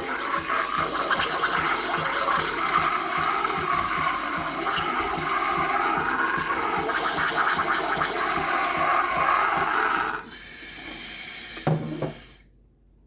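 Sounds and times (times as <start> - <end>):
coffee machine gurgling hiss: 0.0 - 12.5.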